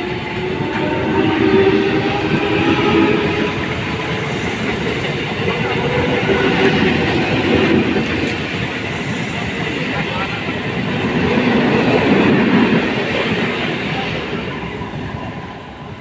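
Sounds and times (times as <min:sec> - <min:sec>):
train wheels running on rails: 0:00.0 - 0:16.0.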